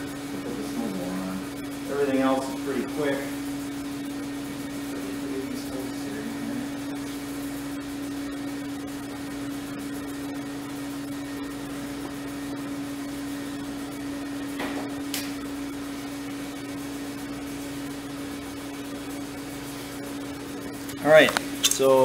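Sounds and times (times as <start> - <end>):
steady hum with hiss: 0.0 - 22.0.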